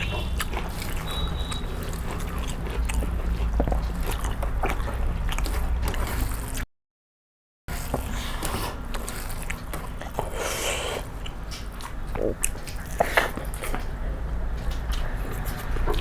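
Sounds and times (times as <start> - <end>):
person biting and chewing food: 0.0 - 6.6, 7.7 - 14.0.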